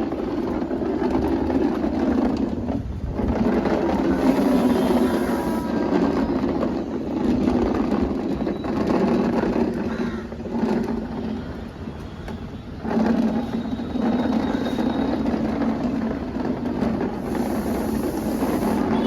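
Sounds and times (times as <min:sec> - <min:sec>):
vehicle engine hum: 0:00.0 - 0:09.5, 0:10.3 - 0:19.0.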